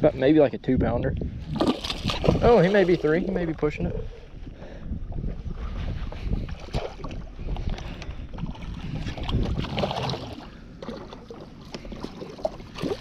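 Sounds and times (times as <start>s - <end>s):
wind on microphone: 0.0s - 11.1s.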